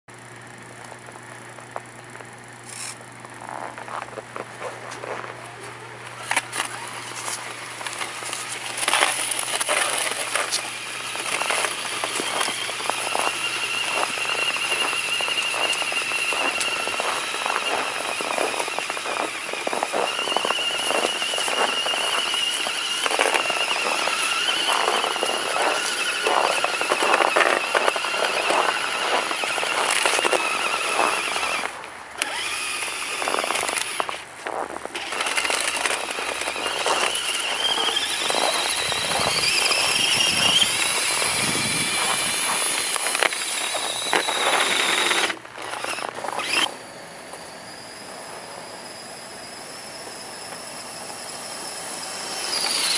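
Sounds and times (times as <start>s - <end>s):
electric motor and gears whining: 0.1s - 52.9s
plow blade scraping through snow: 2.6s - 52.9s.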